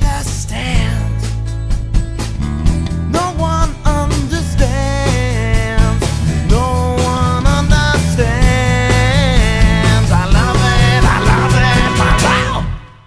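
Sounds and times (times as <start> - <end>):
song with beat and heavy bass: 0.0 - 13.0.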